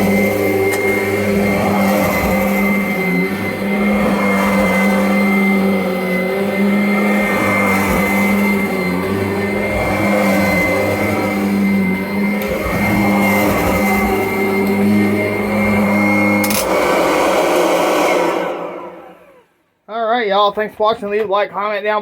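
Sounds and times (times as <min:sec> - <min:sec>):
vacuum cleaner running: 0:00.0 - 0:19.8.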